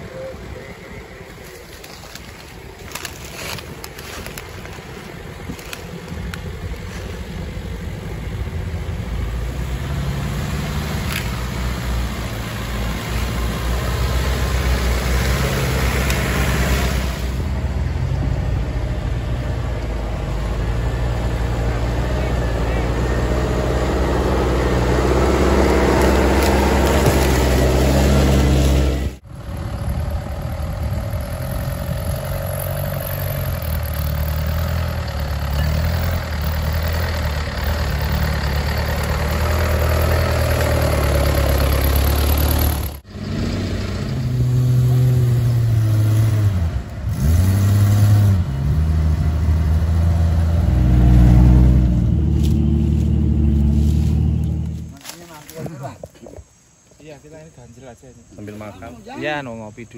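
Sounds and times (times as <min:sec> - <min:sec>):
off-road vehicle engine revving: 0:05.2 - 0:55.0.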